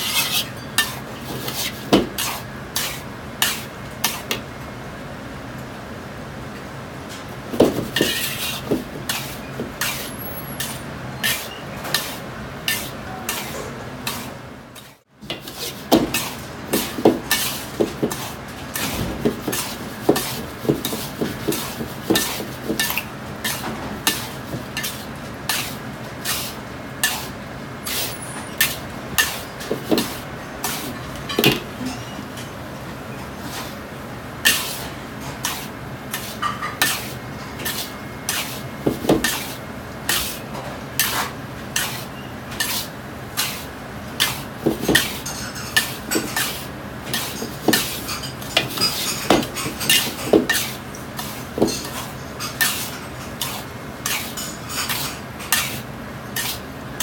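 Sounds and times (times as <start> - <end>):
metal spatula scraping wok: 0.0 - 4.4, 7.7 - 31.2, 34.4 - 56.7.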